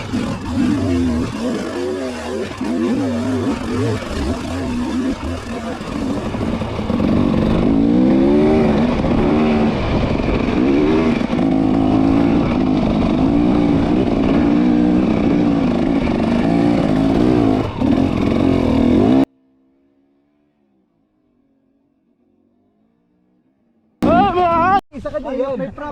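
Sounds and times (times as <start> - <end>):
motorcycle engine accelerating: 0.0 - 24.7.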